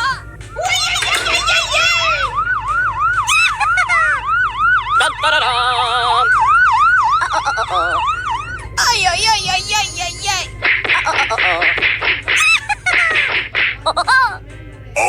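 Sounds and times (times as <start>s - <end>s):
siren yelping: 0.0s - 14.4s.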